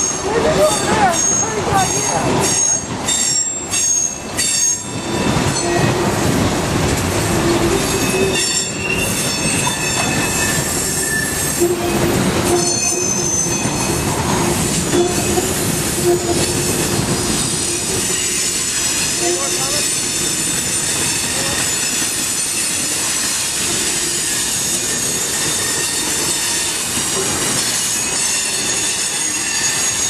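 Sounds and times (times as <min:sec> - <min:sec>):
train wheels squealing on rails: 0:00.0 - 0:06.4, 0:07.1 - 0:30.0.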